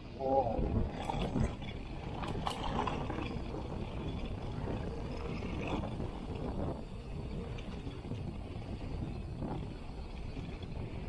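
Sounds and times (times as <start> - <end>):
bike tyres rumbling on dirt: 0.0 - 11.0
wind on microphone: 0.0 - 11.0
bike rattling over bumps: 0.1 - 11.0.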